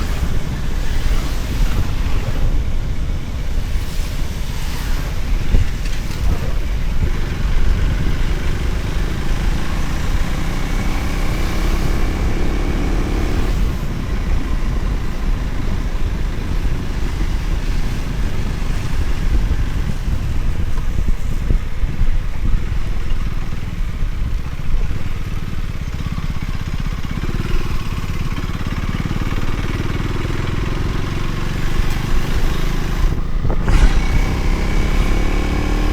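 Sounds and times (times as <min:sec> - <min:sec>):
motorcycle running: 0:00.0 - 0:35.9
wind buffeting microphone: 0:00.0 - 0:35.9.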